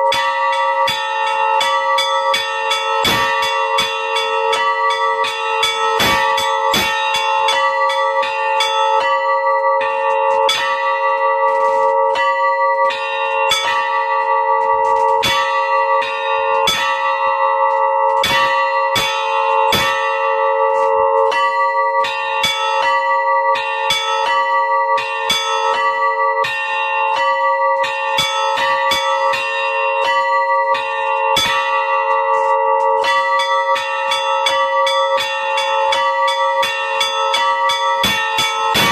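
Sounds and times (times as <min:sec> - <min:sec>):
bells ringing: 0:00.0 - 0:38.9.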